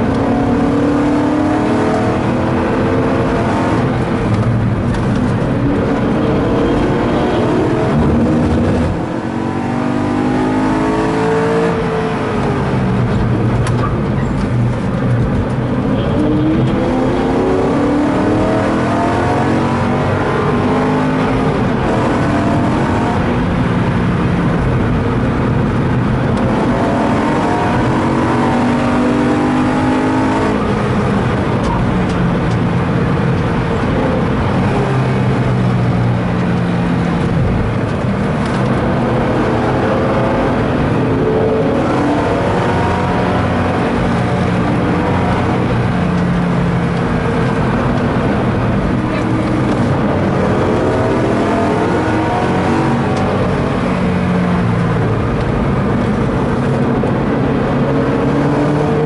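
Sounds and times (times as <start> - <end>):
car engine pulling hard: 0.0 - 59.0
steady road noise: 0.0 - 59.0.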